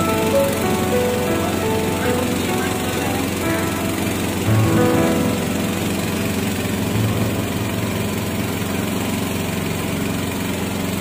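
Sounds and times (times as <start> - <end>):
constant hiss: 0.0 - 10.5
motorboat engine running: 0.0 - 11.0.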